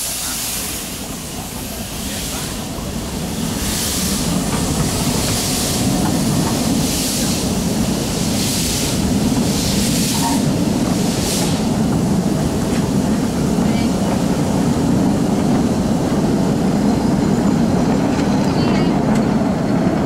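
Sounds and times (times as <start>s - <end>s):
steam locomotive exhaust puffs: 0.0s - 17.8s.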